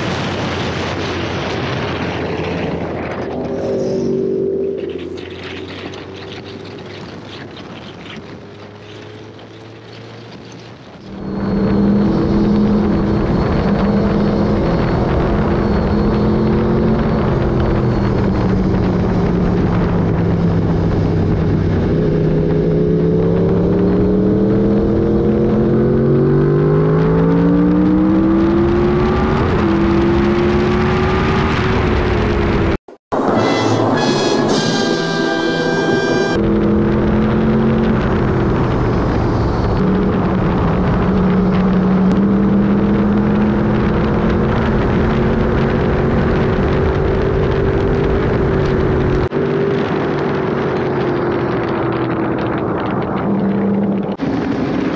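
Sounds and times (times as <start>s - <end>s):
wind rushing: 0.0s - 9.9s, 10.8s - 54.9s
motorcycle engine accelerating: 2.3s - 33.3s, 34.0s - 54.9s.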